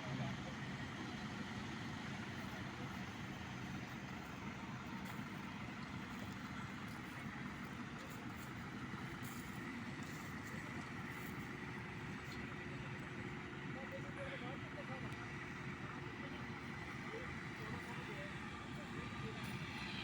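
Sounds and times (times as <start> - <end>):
baler machinery drone: 0.0 - 20.0.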